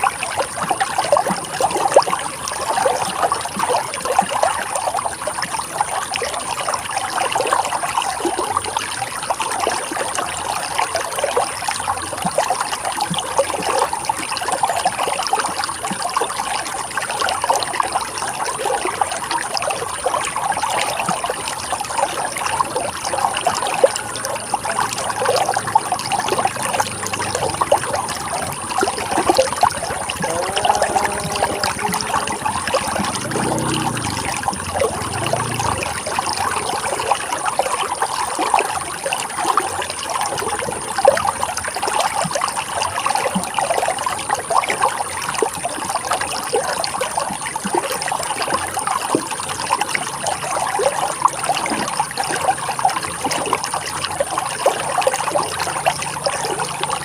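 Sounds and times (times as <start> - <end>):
river water babbling over rocks: 0.0 - 57.0.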